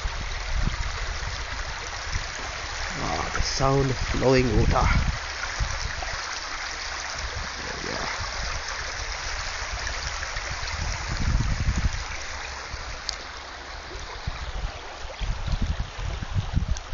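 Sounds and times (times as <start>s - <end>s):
river water rushing over rocks: 0.0s - 16.9s.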